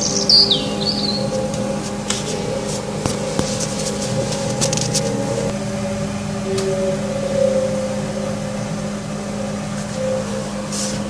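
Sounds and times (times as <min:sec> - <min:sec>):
droning hum of held tones: 0:00.0 - 0:11.0.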